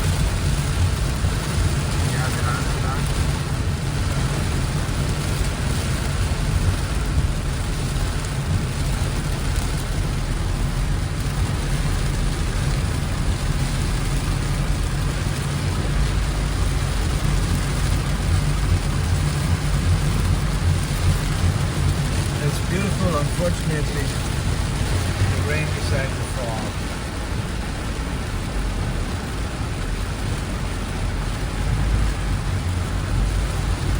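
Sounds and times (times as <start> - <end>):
rain falling: 0.0 - 33.9
vehicle engine and tyres rumbling: 0.0 - 33.9.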